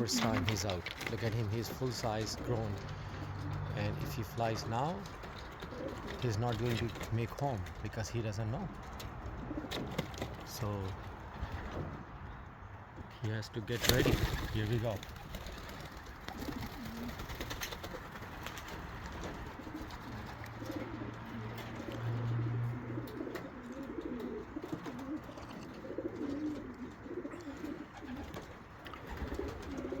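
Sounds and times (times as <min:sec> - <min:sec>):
pigeons cooing: 0:00.0 - 0:12.1, 0:13.8 - 0:30.0.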